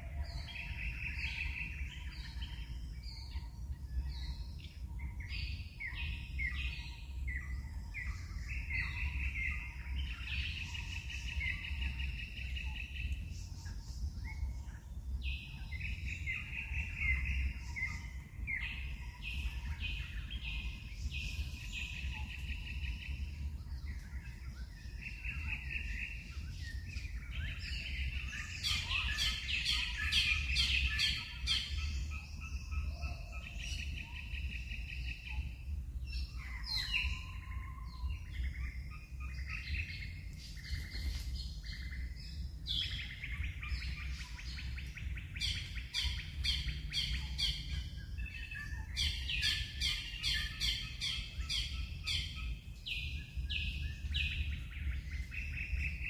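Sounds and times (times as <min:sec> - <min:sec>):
birds chirping and trilling: 0:00.0 - 0:56.0
steady low rumble: 0:00.0 - 0:56.0.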